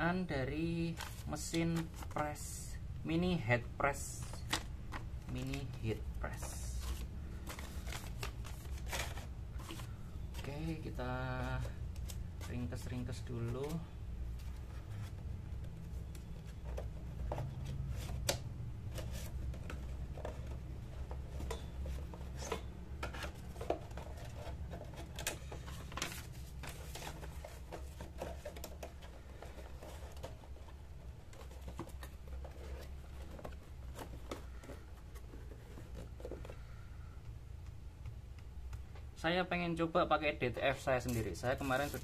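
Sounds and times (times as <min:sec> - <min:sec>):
steady low hum: 0:00.0 - 0:42.0
papers and tools handled on desk: 0:00.6 - 0:39.2, 0:40.0 - 0:42.0.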